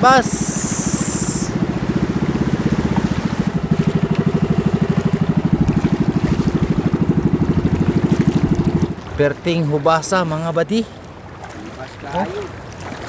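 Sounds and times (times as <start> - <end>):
boat engine putter: 0.0 - 13.0.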